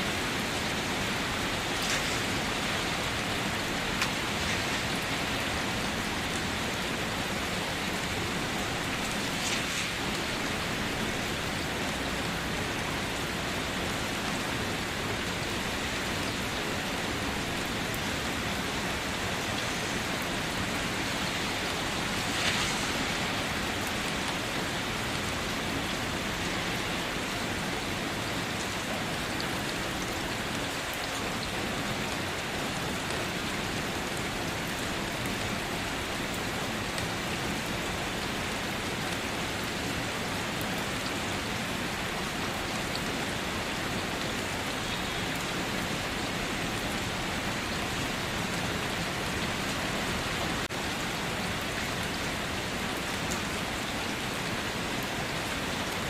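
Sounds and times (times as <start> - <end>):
heavier raindrops: 0.0 - 56.0
steady rain hiss: 0.0 - 56.0.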